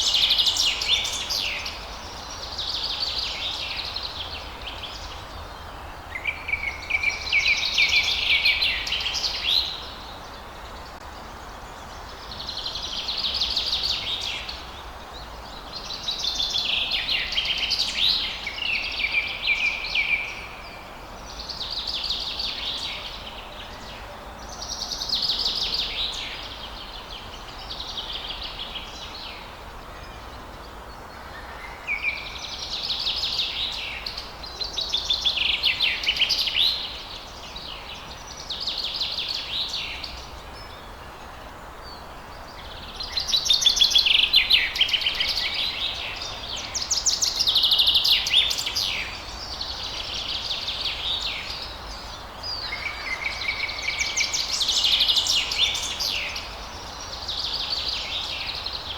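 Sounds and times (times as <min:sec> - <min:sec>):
faint background hiss: 0:00.0 - 0:58.9.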